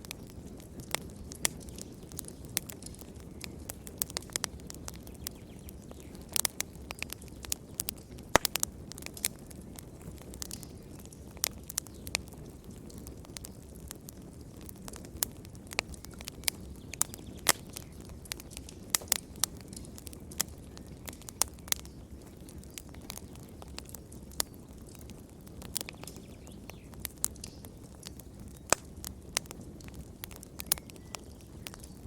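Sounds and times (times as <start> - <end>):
fire pops and snaps: 0.0 - 32.0
low rumble of flames: 0.0 - 32.0.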